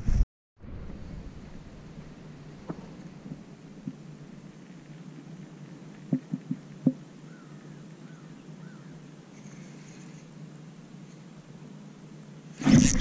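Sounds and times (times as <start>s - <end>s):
faint low hum: 0.1s - 13.0s.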